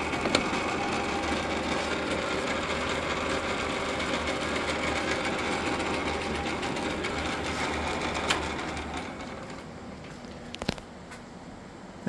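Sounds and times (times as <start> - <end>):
lathe running: 0.0 - 10.0.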